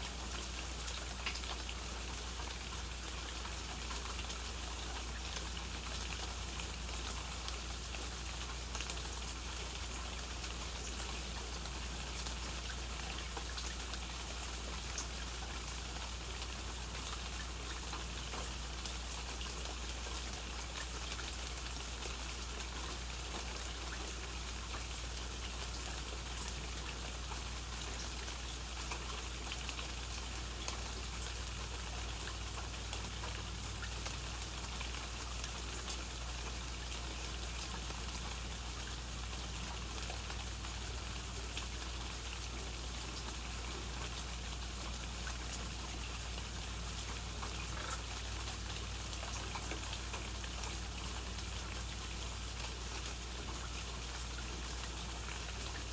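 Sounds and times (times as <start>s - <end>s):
rain falling: 0.0s - 55.9s
raindrops ticking on surfaces: 0.0s - 55.9s.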